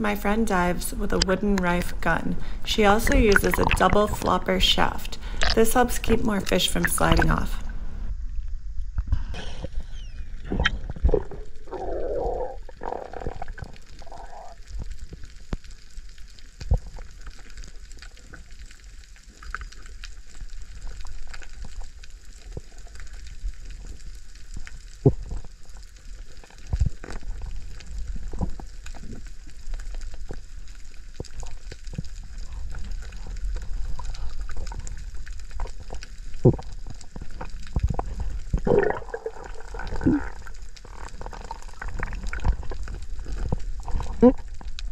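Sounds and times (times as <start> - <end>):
water gurgles: 0.0 - 8.1, 9.4 - 44.9
underwater rumble of moving water: 0.0 - 44.9.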